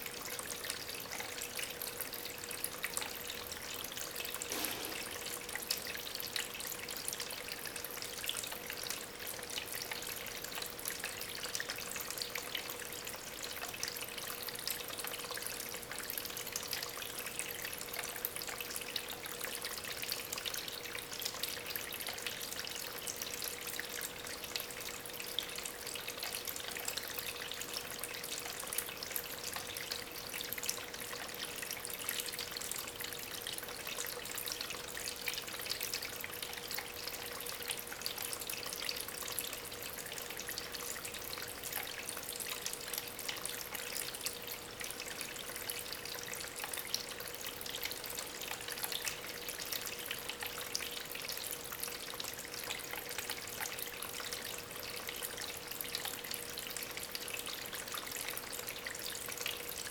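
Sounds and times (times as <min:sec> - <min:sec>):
faint pump hum: 0:00.0 - 0:59.9
water trickling over stones: 0:00.0 - 0:59.9.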